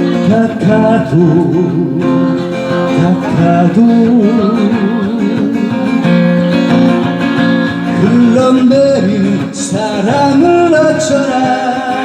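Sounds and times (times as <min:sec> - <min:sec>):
acoustic guitar: 0:00.0 - 0:12.0
person singing with vibrato: 0:00.0 - 0:12.0.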